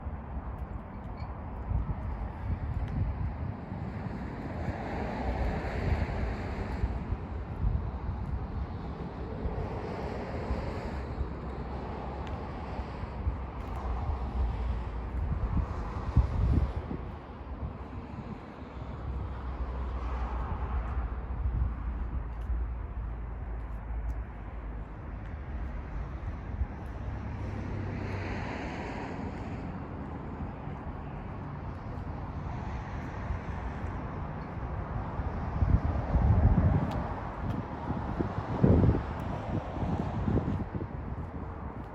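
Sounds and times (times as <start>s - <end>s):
road and tyre rumble: 0.0s - 41.9s
wind noise: 0.0s - 41.9s.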